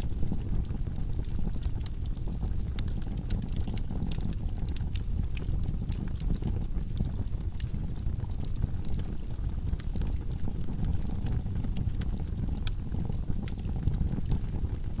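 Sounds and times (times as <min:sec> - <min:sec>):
low rumble of flames: 0:00.0 - 0:15.0
wood crackles and pops: 0:00.0 - 0:15.0.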